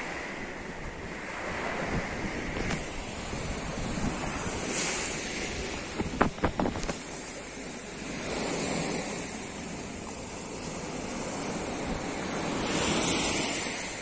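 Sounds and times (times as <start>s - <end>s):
sea surf washing on beach: 0.0s - 14.0s
wind rumbling on microphone: 0.0s - 14.0s.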